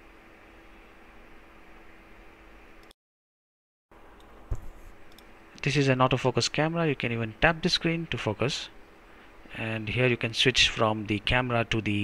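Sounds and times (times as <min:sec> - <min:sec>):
thin steady hum: 0:00.0 - 0:03.0, 0:03.9 - 0:12.0.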